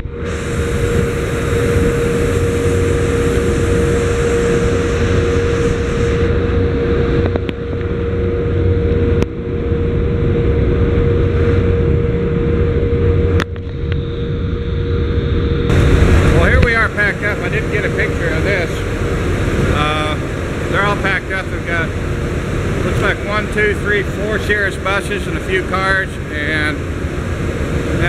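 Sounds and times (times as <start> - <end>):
ship engines droning: 0.0 - 28.0.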